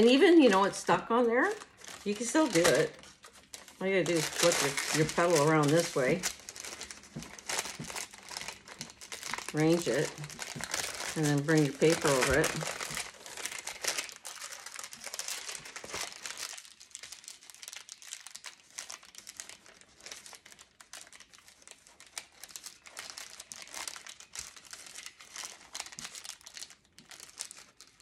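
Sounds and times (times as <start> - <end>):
parchment paper crinkling: 0.0 - 28.0.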